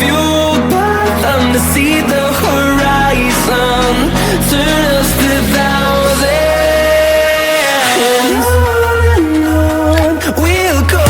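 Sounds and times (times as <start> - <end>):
pop song with synth melody: 0.0 - 11.0.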